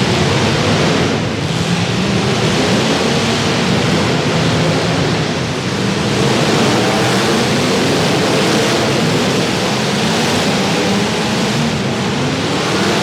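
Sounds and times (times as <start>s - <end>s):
several car engines running: 0.0s - 13.0s.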